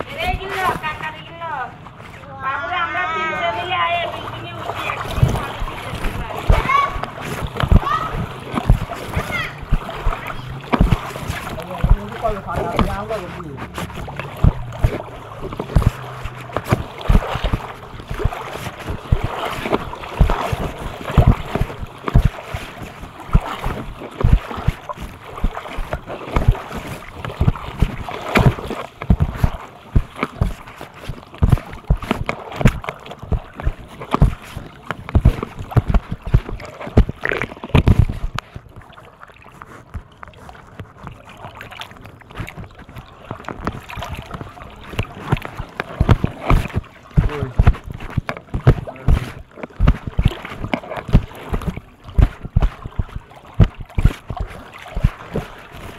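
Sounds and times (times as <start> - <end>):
water noise: 0.0 - 55.9
wind: 0.0 - 55.9
knocks and thumps: 5.1 - 38.6, 42.4 - 55.9.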